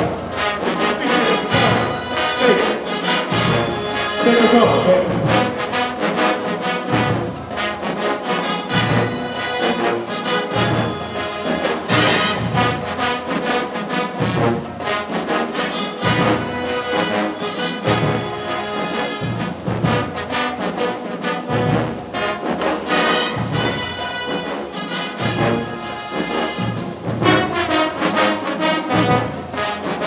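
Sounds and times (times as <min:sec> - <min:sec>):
drumline beating: 0:00.0 - 0:30.0
trombones playing tune: 0:00.0 - 0:30.0.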